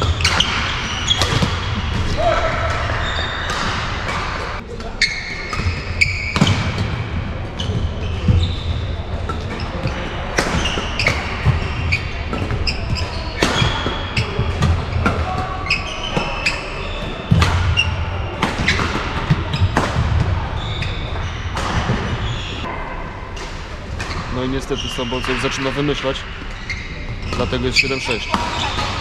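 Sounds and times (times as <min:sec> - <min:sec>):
shoes squeaking on court: 0:00.0 - 0:06.6, 0:07.6 - 0:19.8, 0:20.4 - 0:22.8, 0:24.0 - 0:29.0.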